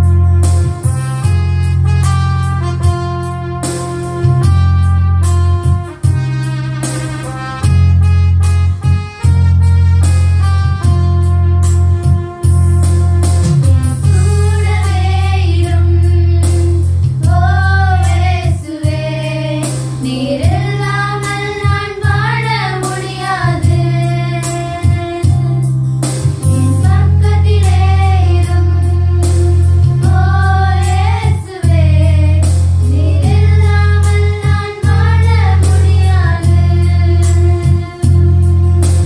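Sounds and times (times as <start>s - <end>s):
keyboard backing with bass: 0.0s - 39.0s.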